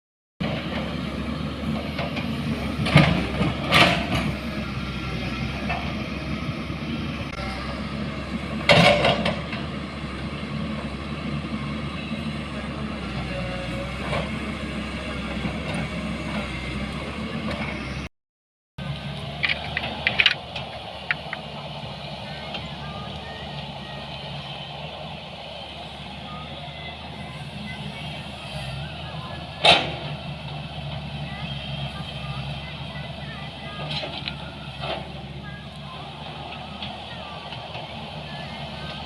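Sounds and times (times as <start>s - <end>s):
engine clatter: 0.4s - 18.1s, 18.8s - 39.0s
vehicle engine humming: 0.4s - 18.1s, 18.8s - 39.0s.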